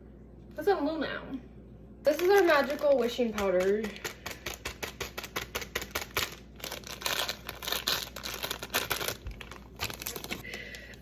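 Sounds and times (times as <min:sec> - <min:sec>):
packet of powder rattling: 0:02.1 - 0:11.0.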